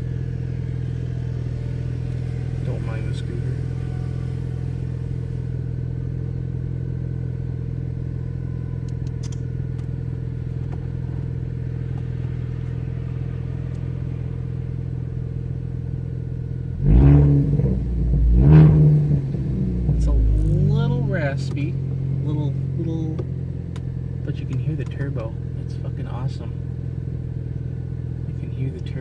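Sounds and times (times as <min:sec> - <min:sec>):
car engine idling: 0:00.0 - 0:29.0
raspy exhaust revving: 0:00.0 - 0:29.0.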